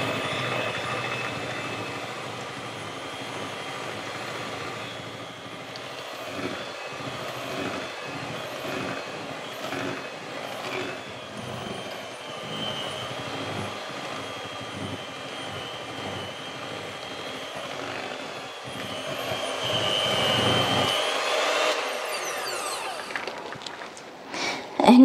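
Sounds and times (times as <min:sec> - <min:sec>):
electric hand mixer whining: 0:00.0 - 0:24.6.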